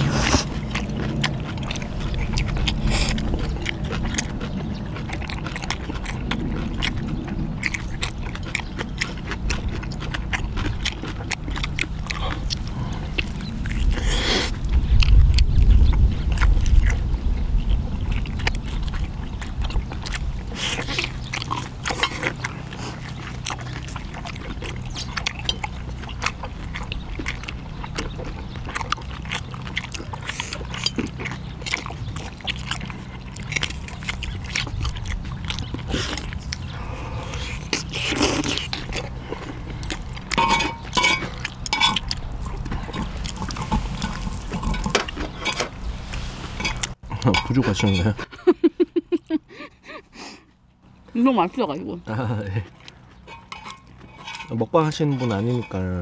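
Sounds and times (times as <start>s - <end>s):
wet chewing and slurping: 0.0s - 48.4s, 49.2s - 56.0s.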